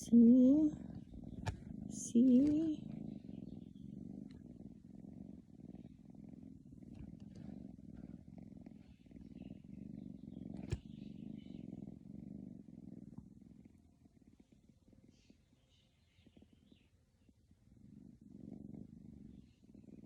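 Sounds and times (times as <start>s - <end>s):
cat snoring: 0.0s - 20.0s.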